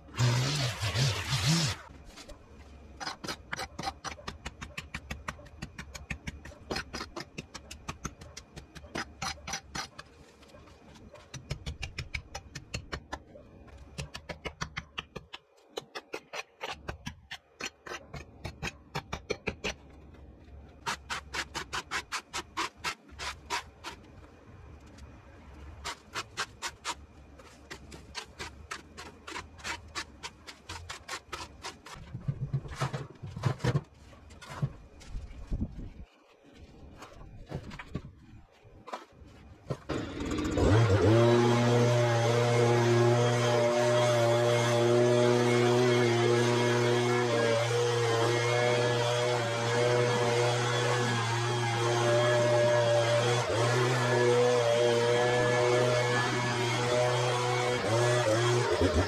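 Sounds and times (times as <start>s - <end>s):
tools scraping through dry soil: 0.1s - 13.0s, 20.7s - 59.0s.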